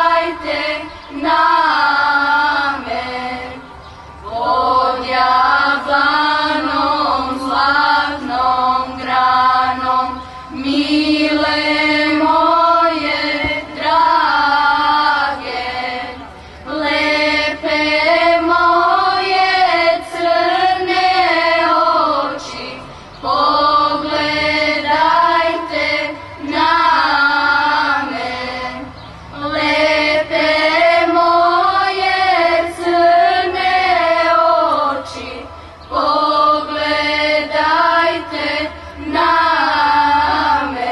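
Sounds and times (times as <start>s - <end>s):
children's choir singing: 0.0s - 40.9s.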